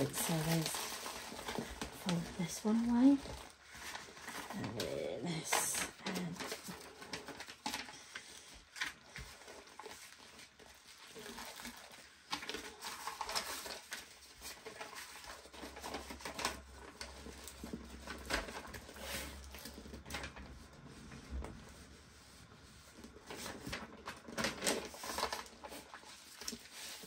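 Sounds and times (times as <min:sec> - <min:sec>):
paper and plastic crinkling: 0:00.0 - 0:27.0.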